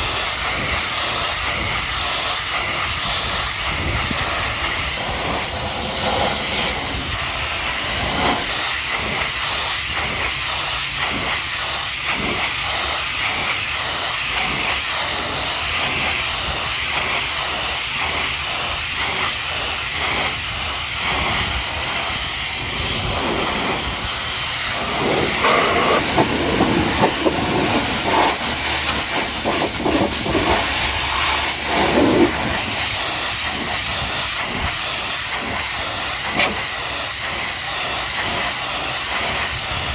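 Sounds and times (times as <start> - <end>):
pressure washer spraying: 0.0 - 39.9.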